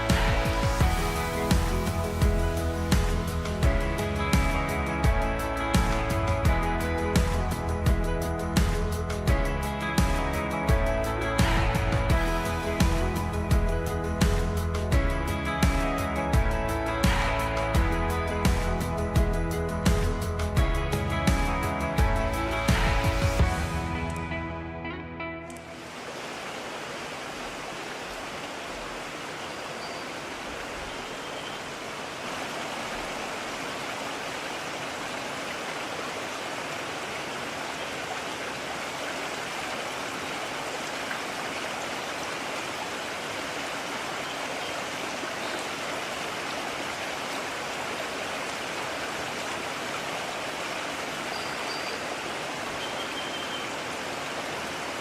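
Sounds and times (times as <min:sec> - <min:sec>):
stream rushing over stones: 0:00.0 - 0:19.2, 0:19.8 - 0:24.4, 0:25.5 - 0:55.0.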